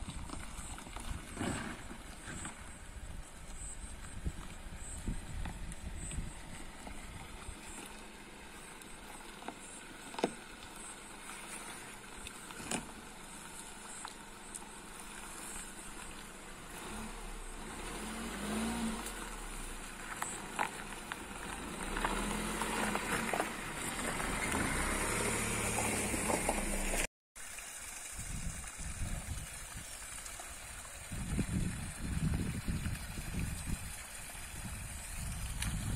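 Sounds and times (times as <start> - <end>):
vehicle driving on stony track: 0.0 - 27.1, 29.3 - 35.9.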